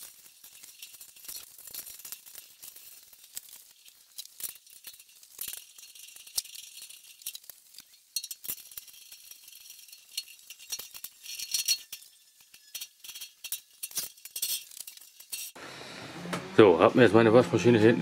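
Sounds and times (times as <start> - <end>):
metallic clicks and rattles: 0.0 - 15.6.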